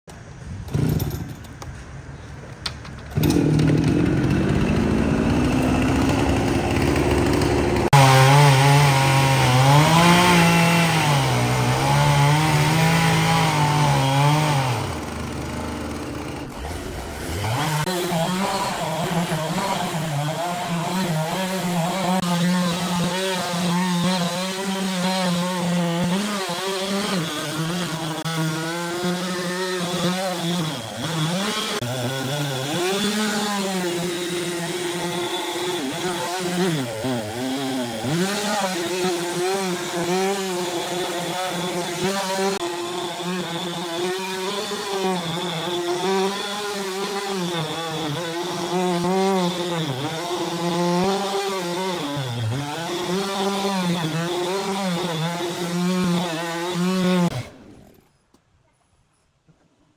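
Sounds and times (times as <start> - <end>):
chainsaw cutting log: 0.7 - 1.4, 3.1 - 58.1.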